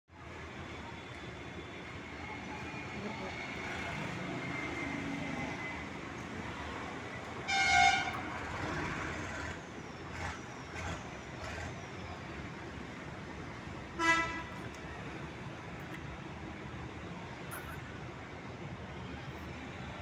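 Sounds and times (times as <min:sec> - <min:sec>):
outdoor background noise: 0:00.1 - 0:20.0.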